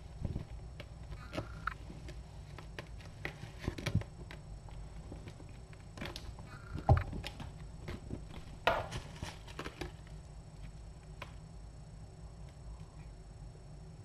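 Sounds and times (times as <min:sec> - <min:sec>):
cats scuffling: 0:00.0 - 0:11.4.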